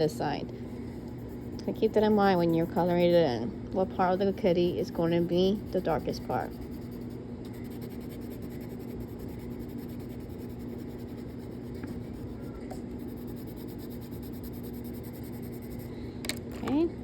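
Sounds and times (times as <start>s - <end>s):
low electrical hum: 0.0s - 17.0s
crayon scratching across paper: 1.2s - 3.3s, 4.0s - 15.9s.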